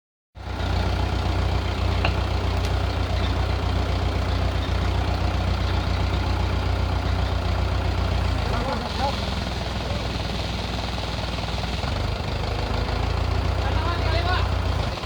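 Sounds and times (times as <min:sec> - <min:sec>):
heavy engine droning: 0:00.4 - 0:15.0.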